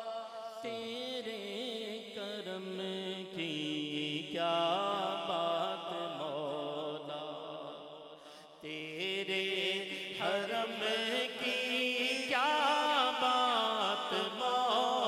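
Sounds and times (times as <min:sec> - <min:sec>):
man singing unaccompanied: 0:00.0 - 0:08.0, 0:08.6 - 0:15.0.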